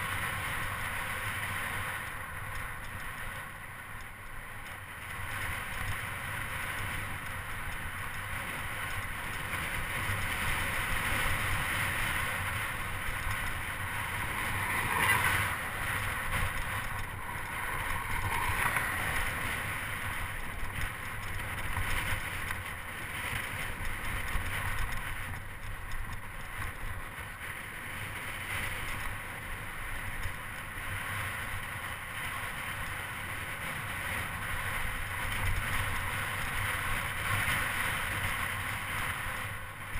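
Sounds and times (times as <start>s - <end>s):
low road rumble: 0.0s - 39.9s
wind rushing over microphone: 5.0s - 39.9s.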